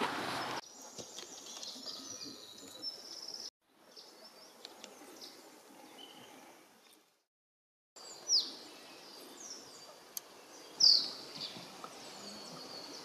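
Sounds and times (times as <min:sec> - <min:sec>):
sparrows chirping: 0:00.5 - 0:07.0, 0:08.0 - 0:13.0.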